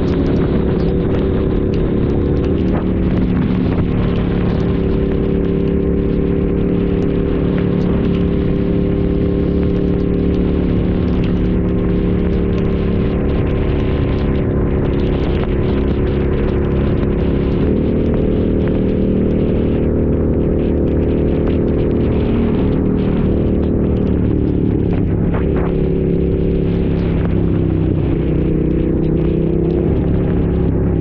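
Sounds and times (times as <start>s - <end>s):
motorcycle engine cruising: 0.0s - 31.0s
wind noise on microphone: 0.0s - 31.0s.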